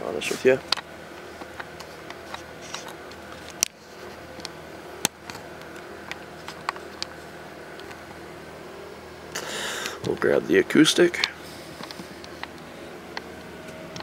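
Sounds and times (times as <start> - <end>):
fan-like room hum: 0.0 - 14.0.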